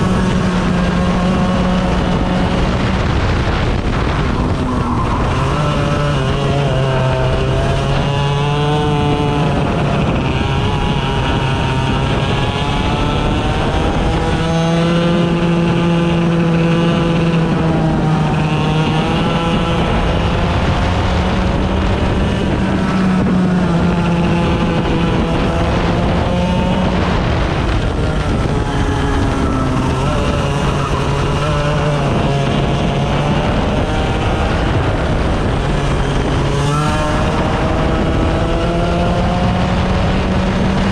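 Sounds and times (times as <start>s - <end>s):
small racing engines accelerating: 0.0s - 40.9s.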